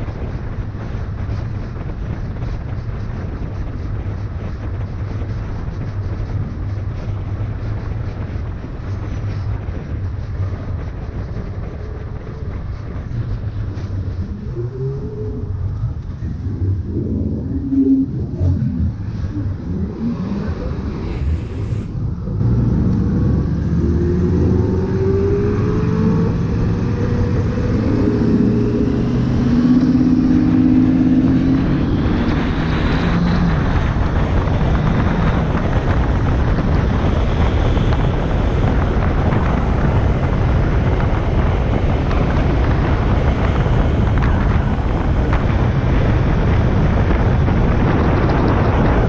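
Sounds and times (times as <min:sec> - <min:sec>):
wind and road noise: 0:00.0 - 0:49.0
motorcycle engine accelerating: 0:00.1 - 0:49.0.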